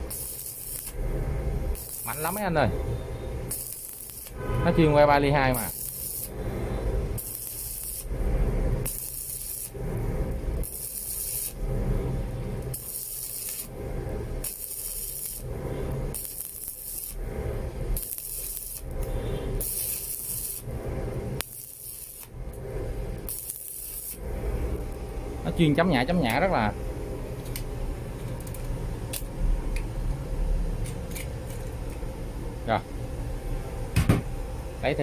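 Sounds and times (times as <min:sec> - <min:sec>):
welding arc crackling: 0:00.0 - 0:29.8.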